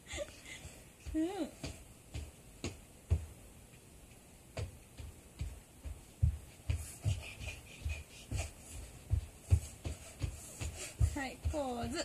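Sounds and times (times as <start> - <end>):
child's feet thudding on floor: 0.6 - 3.8, 4.5 - 12.0.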